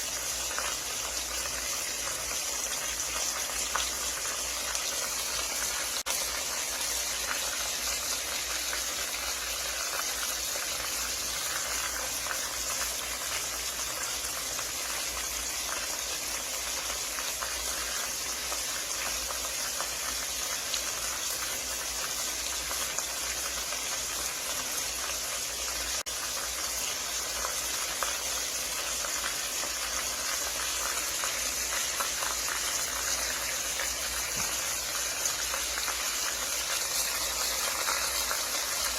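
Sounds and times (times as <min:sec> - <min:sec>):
oil sizzling in frying pan: 0:00.0 - 0:38.9.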